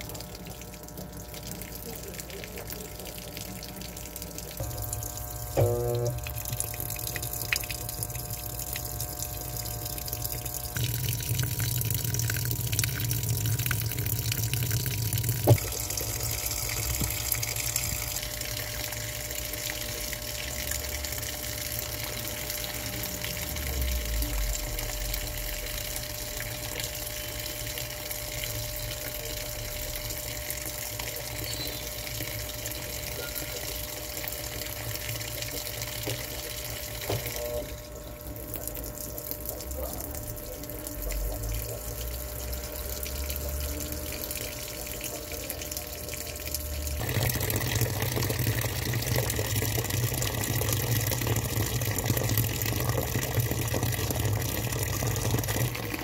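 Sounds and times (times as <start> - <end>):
water pouring into washing machine: 0.0 - 56.0.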